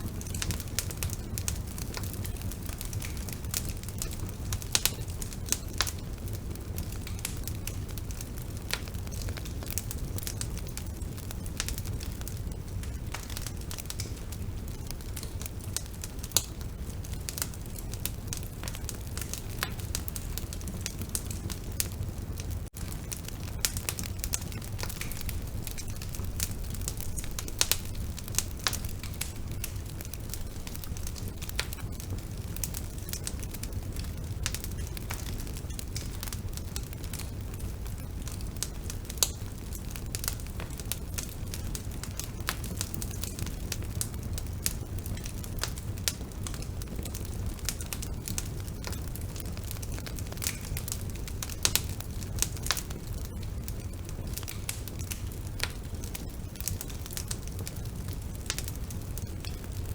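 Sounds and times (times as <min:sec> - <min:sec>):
fire crackling and popping: 0:00.0 - 0:59.9
low rumble of flame: 0:00.0 - 0:59.9.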